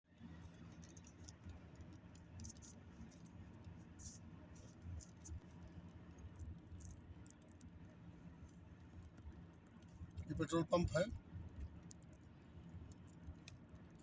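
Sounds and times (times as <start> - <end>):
faint low hum: 0.1 - 14.0
soft high ticks: 0.3 - 10.3, 11.1 - 14.0.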